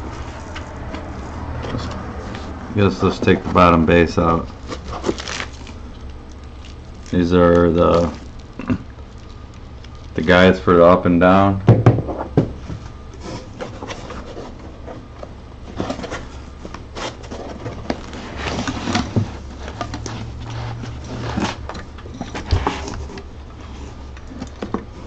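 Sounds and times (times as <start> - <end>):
packaging rubbing and scraping: 0.0 - 10.7, 12.9 - 25.0
low steady hum: 0.0 - 25.0.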